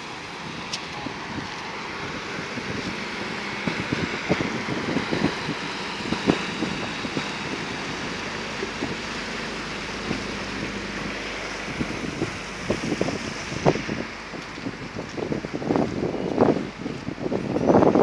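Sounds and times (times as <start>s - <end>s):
barge engine running: 0.0s - 18.0s
water churning along hull: 0.0s - 18.0s
wind buffeting microphone: 0.0s - 18.0s.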